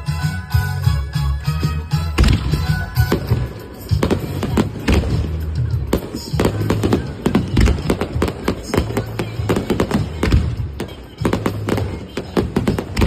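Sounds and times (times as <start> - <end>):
music from loudspeakers: 0.0 - 13.0
fireworks bursting: 1.8 - 13.0.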